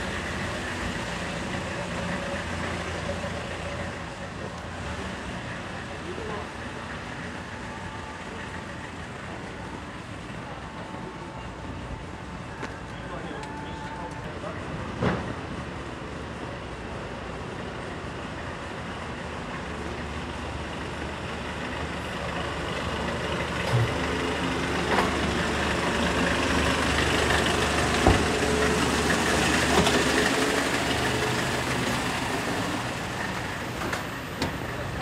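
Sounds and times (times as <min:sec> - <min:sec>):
heavy vehicle engine humming: 0:00.0 - 0:35.0.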